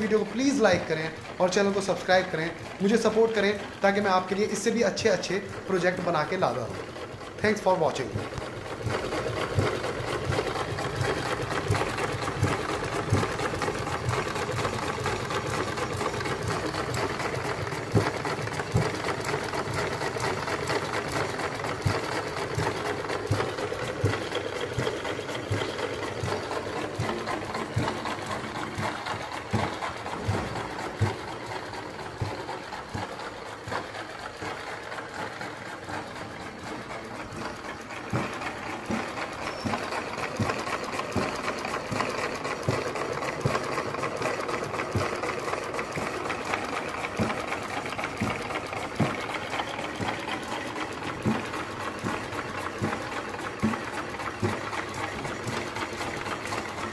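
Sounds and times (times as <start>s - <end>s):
small engine clattering: 0.0s - 56.9s.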